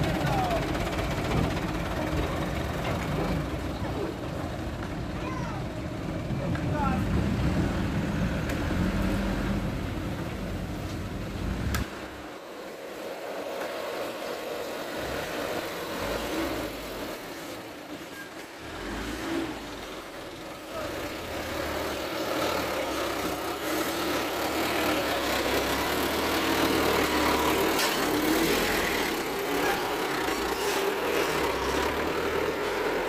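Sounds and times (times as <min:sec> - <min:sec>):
dump truck diesel engine: 0:00.0 - 0:33.0.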